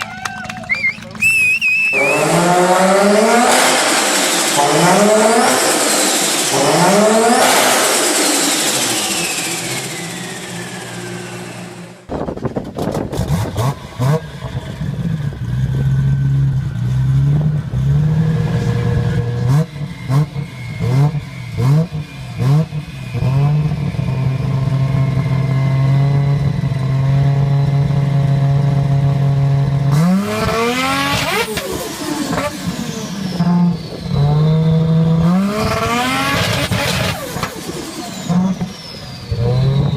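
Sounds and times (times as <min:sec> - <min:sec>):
car engine revving: 0:00.8 - 0:39.9.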